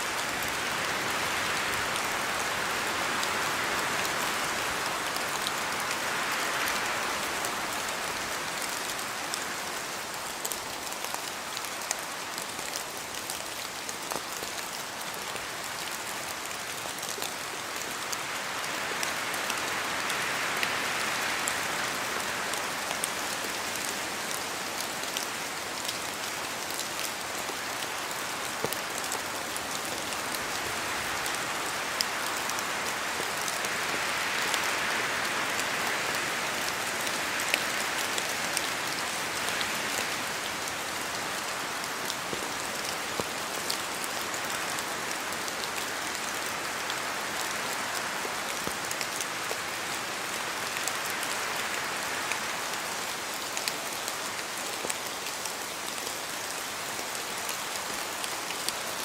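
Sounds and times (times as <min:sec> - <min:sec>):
rain falling through trees: 0:00.0 - 0:59.0.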